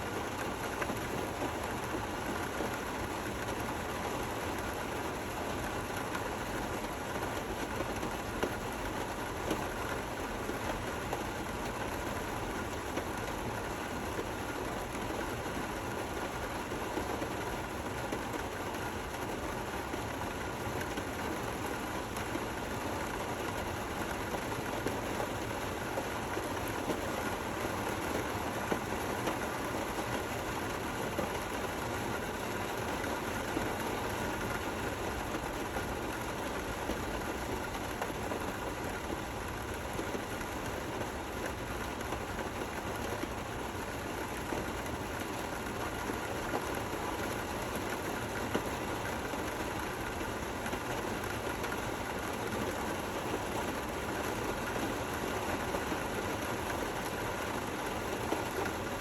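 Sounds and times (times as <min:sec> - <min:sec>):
gentle rain hiss: 0:00.0 - 0:59.0.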